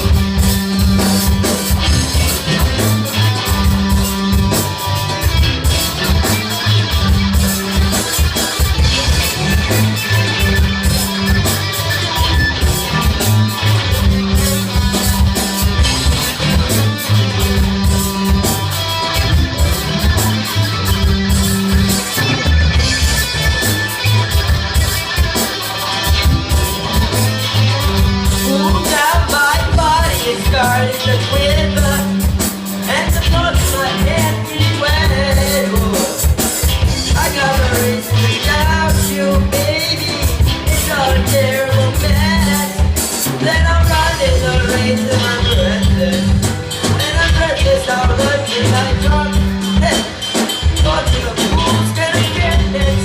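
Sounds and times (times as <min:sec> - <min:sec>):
bass notes: 0:00.0 - 0:53.0
electric guitar: 0:00.0 - 0:53.0
rock band playing shuffle groove: 0:00.0 - 0:53.0.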